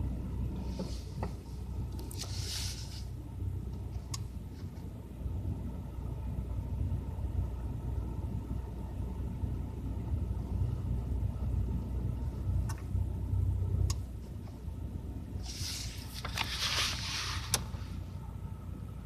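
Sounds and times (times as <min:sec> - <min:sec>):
car engine running with low rumble: 0:00.0 - 0:19.0.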